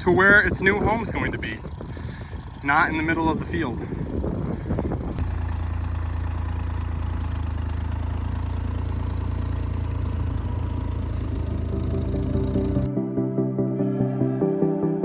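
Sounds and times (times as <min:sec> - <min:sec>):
diesel engine droning: 0:00.0 - 0:14.9.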